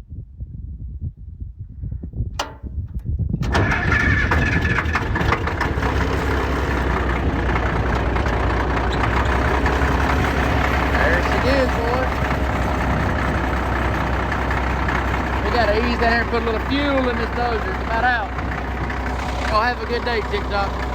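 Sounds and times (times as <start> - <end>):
diesel engine starting and running: 3.4 - 20.9.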